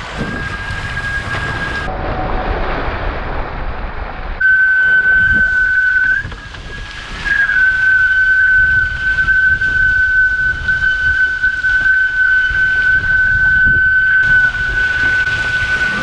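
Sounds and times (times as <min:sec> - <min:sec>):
high-pitched hydrofoil whistle: 0:00.0 - 0:02.0, 0:04.4 - 0:16.0
water and wind rushing: 0:00.0 - 0:16.0.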